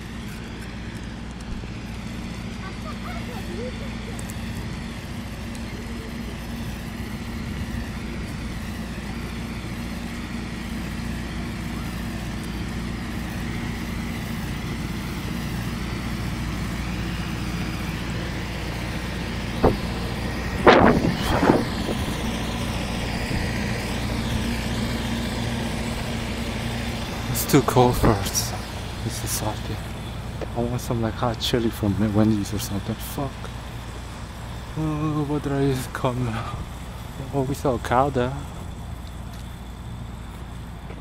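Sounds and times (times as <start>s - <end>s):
vehicle engine idling: 0.0s - 41.0s.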